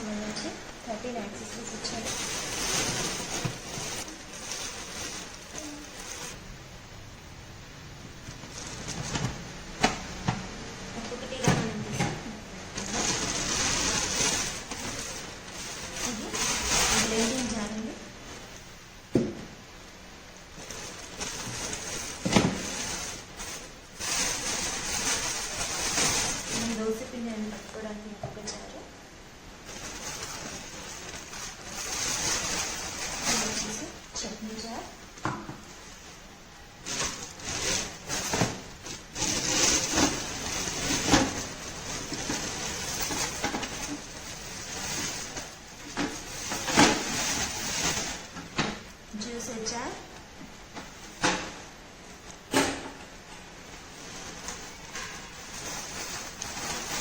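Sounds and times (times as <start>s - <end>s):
plastic packaging rustling: 0.0s - 6.7s, 8.1s - 10.2s, 12.6s - 19.2s, 20.2s - 28.0s, 29.6s - 57.0s.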